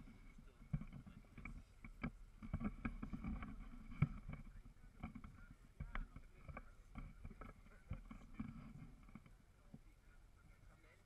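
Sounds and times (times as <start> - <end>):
thumps against microphone: 0.0 - 9.9
faint high whine: 0.0 - 11.0.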